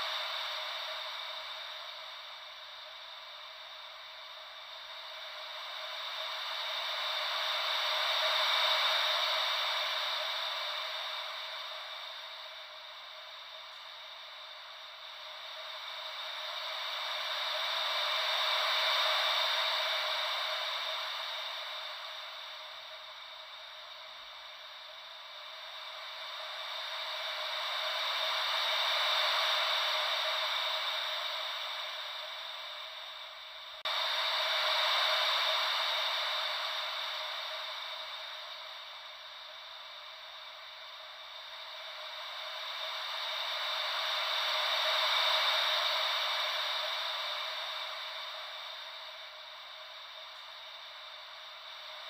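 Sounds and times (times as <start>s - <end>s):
ocean wave white noise: 0.0s - 52.0s.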